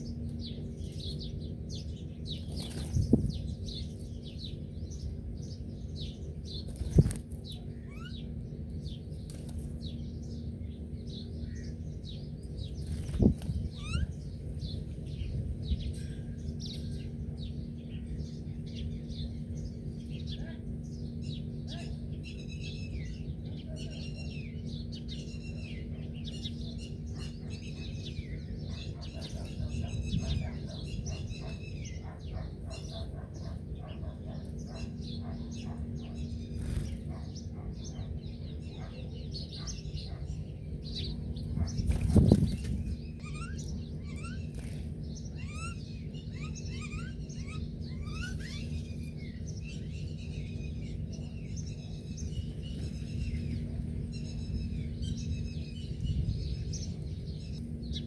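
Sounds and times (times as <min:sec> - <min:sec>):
birds chirping and singing: 0:00.0 - 0:58.0
steady low hum: 0:00.0 - 0:58.0.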